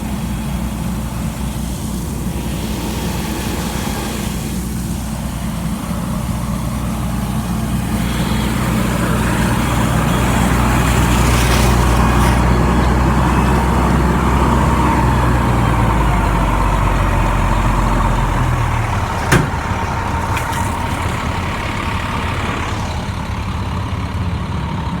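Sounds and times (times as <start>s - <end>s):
fire engine pumping: 0.0s - 25.0s.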